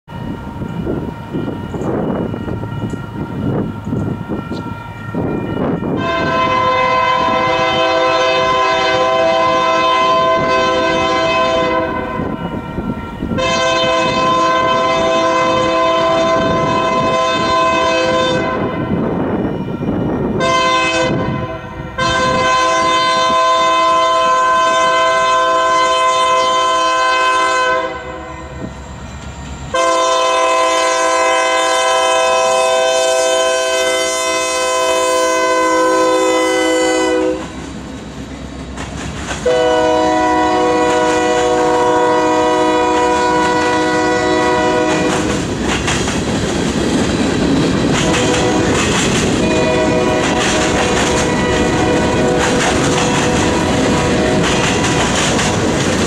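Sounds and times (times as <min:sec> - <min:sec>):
train rumbling: 0:00.0 - 0:56.0
train horn blasts: 0:01.4 - 0:28.8, 0:29.7 - 0:37.7, 0:39.4 - 0:45.5, 0:48.0 - 0:55.7.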